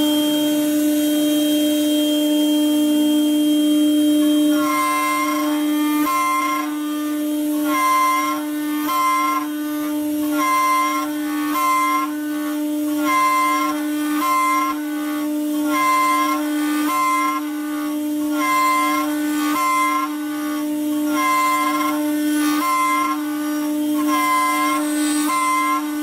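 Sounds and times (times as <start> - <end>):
router spindle high whine: 0.0 - 26.0
drill bit squealing: 4.2 - 26.0.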